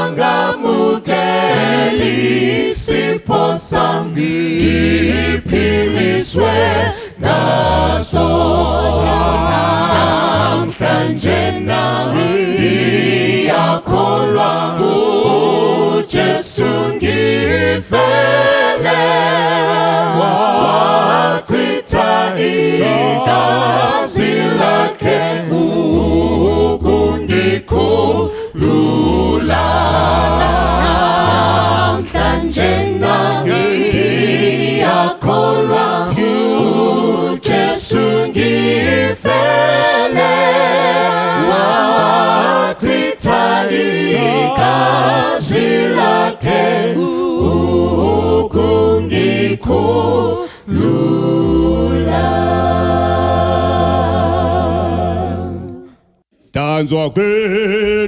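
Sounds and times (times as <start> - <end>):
group singing a hymn in harmony: 0.0 - 56.2.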